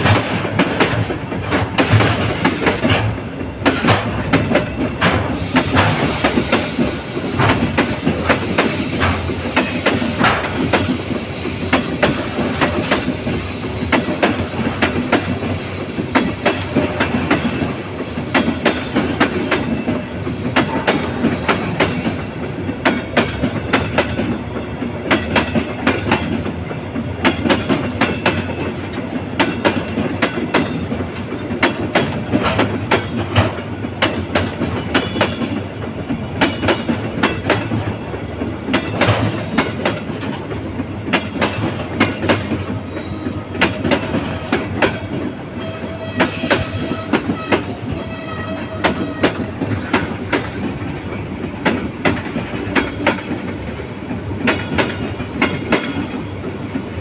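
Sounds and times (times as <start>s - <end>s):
train wheels clickety-clack: 0.0s - 57.0s.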